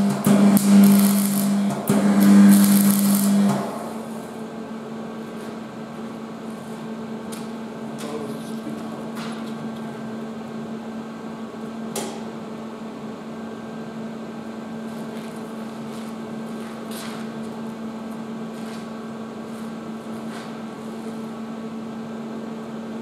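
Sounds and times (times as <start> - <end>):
welding machine humming: 0.0 - 12.4, 14.1 - 23.0.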